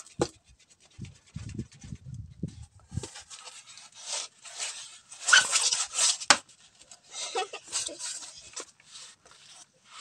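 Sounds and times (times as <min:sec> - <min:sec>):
foam board rubbing: 0:00.0 - 0:10.0.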